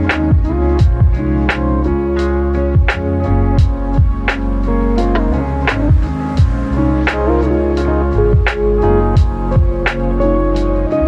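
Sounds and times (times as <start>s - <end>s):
steady drum beat: 0.0s - 10.7s
mellow chillhop music: 0.0s - 11.0s.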